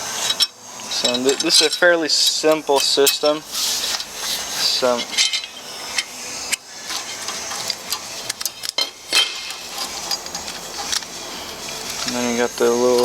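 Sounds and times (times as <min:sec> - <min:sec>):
metal parts clinking and knocking: 0:00.2 - 0:06.1, 0:06.9 - 0:12.3.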